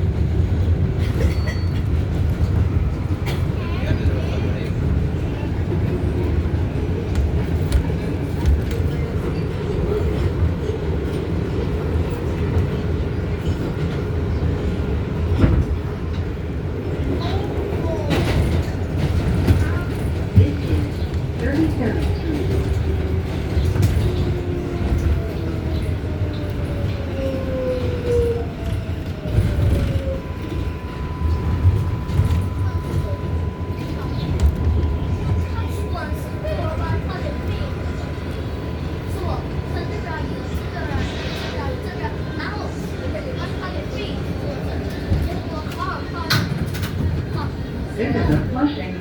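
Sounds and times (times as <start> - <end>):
subway wheels rumbling on rails: 0.0 - 49.0.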